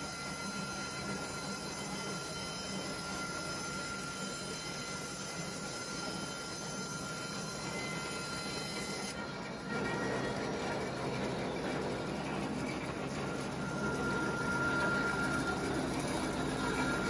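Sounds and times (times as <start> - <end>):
band sawmill cutting log: 0.0 - 17.0
high saw whine: 0.0 - 17.0.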